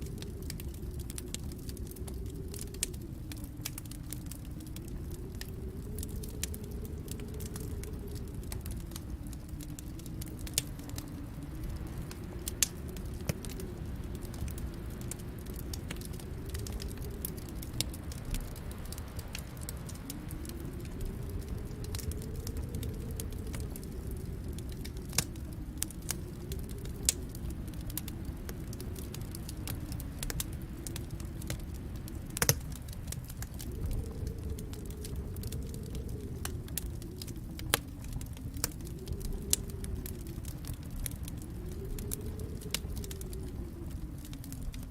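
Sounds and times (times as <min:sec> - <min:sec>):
low rumble: 0:00.0 - 0:44.9
wood fire crackling: 0:00.0 - 0:44.9.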